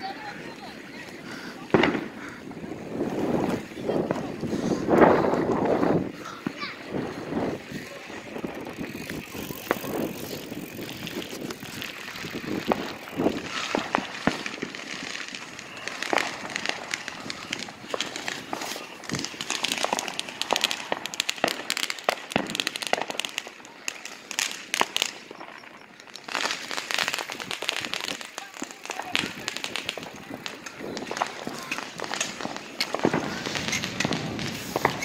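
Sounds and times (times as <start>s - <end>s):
fireworks cracking and popping: 0.0s - 35.0s.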